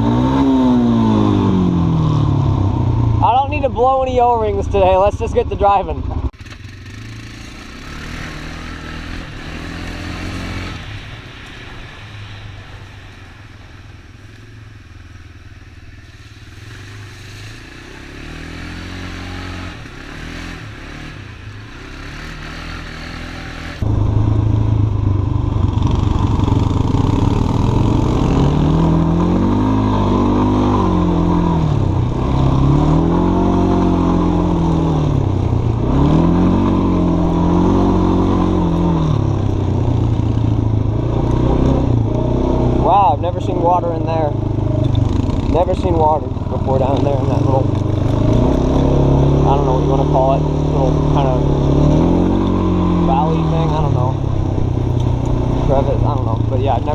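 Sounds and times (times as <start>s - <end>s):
atv engine revving: 0.0s - 13.0s, 14.2s - 56.9s.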